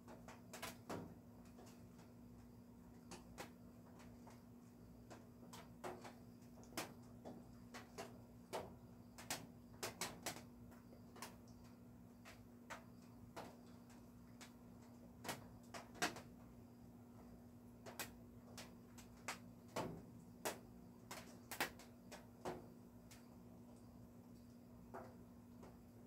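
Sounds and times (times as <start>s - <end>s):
raindrops ticking on a roof: 0.0s - 25.9s.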